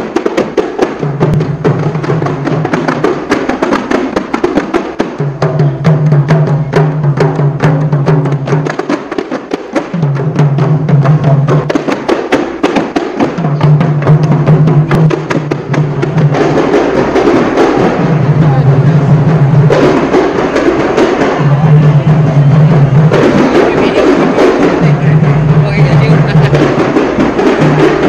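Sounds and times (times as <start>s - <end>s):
frame drums slapping rhythm: 0.0s - 28.0s.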